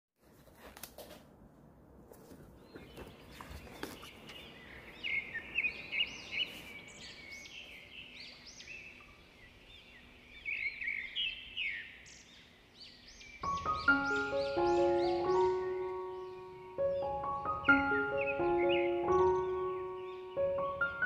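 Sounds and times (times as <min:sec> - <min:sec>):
small songbirds chirping: 0:02.4 - 0:21.0.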